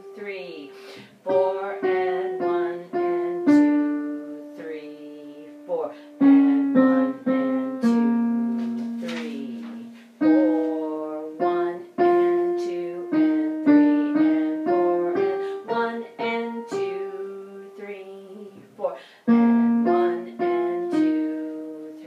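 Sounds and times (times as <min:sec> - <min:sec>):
piano melody: 0:00.0 - 0:18.6, 0:19.2 - 0:22.0.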